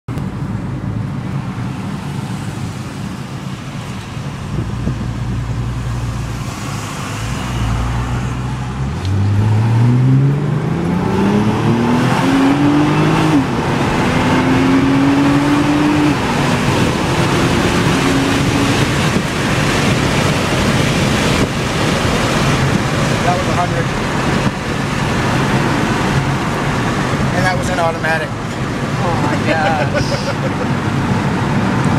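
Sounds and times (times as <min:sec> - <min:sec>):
road and wind noise: 0:00.1 - 0:31.9
car engine accelerating: 0:04.5 - 0:31.9.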